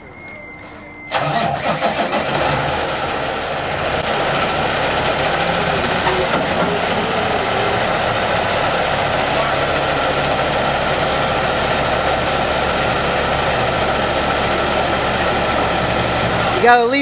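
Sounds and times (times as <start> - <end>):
engine running loudly: 1.1 - 17.0.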